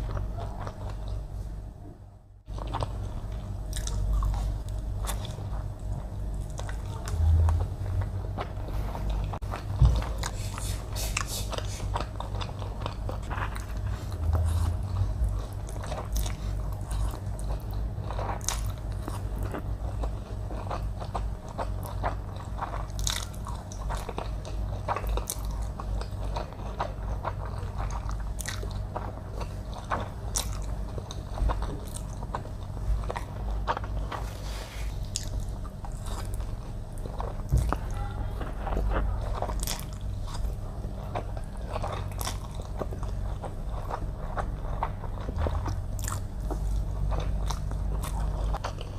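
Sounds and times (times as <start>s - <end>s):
person chewing food: 0.0s - 1.5s, 2.4s - 48.9s.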